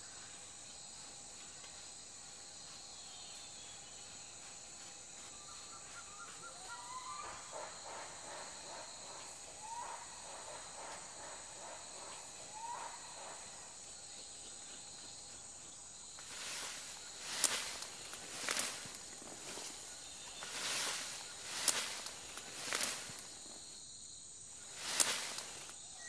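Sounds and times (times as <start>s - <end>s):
high drone of insects: 0.0s - 26.0s.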